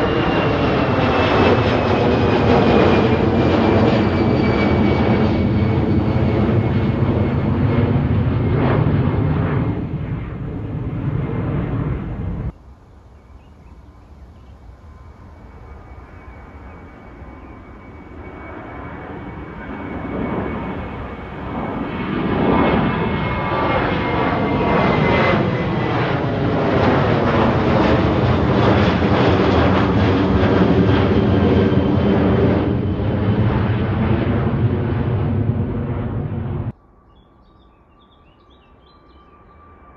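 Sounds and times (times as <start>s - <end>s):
airliner engines at takeoff: 0.0s - 39.9s.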